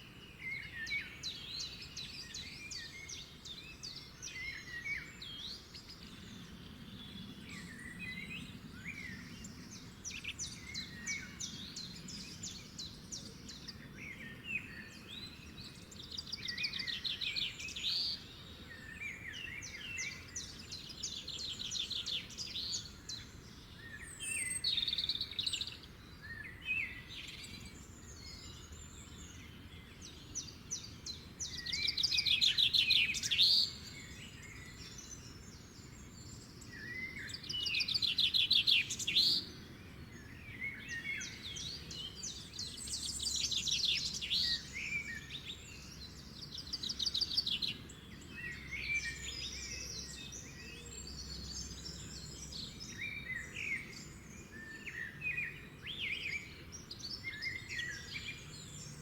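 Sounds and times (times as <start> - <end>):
soft outdoor hiss: 0.0 - 59.0
songbirds trilling and chirping: 0.0 - 59.0.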